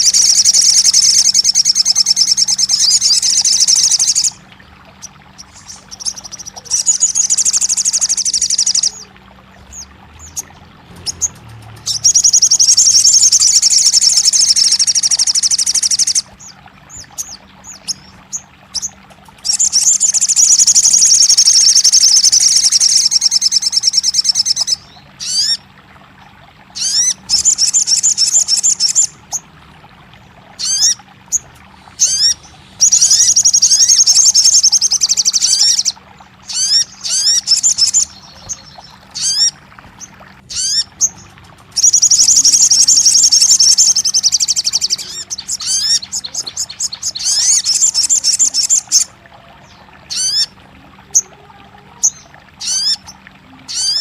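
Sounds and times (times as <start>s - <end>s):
bird high-pitched chattering: 0.0s - 4.4s, 5.4s - 9.1s, 9.7s - 16.2s, 17.0s - 25.6s, 26.8s - 29.1s, 30.6s - 39.6s, 40.5s - 49.1s, 51.1s - 54.0s
upward-sweeping bird chirps: 0.0s - 4.4s, 5.4s - 9.1s, 9.7s - 16.3s, 17.0s - 25.6s, 26.8s - 29.2s, 30.6s - 39.6s, 40.5s - 49.1s, 53.7s - 54.0s.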